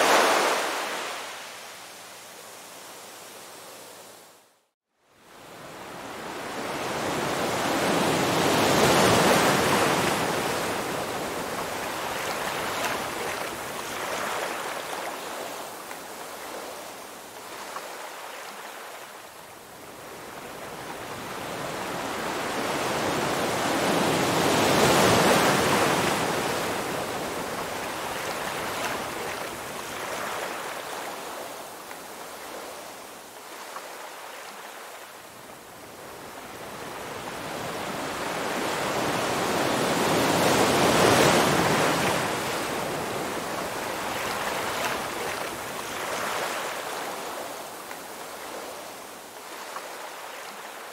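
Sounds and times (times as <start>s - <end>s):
ocean surf breaking on beach: 0.0s - 4.3s, 5.3s - 50.9s.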